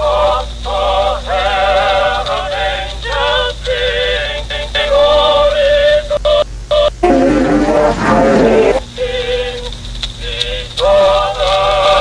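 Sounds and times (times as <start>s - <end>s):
muffled old recording of singing: 0.0s - 12.0s
steady low hum: 0.0s - 12.0s.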